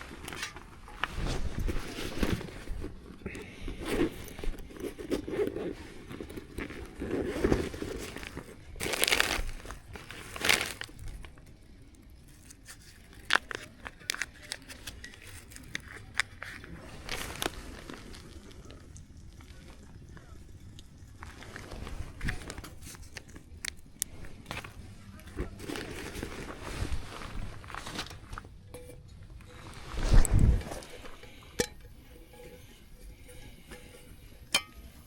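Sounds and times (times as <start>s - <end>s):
crinkling and rustling: 0.0s - 35.0s.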